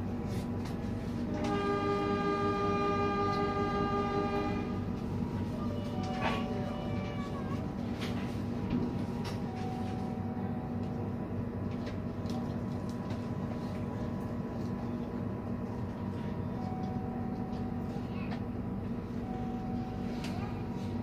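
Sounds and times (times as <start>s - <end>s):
train hum and rumble: 0.0s - 21.0s.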